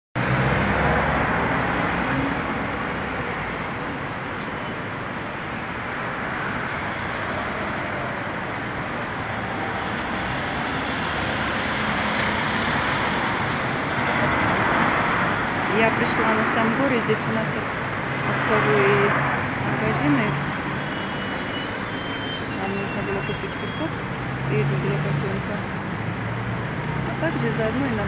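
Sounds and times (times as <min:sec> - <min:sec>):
road traffic passing: 0:00.2 - 0:28.0.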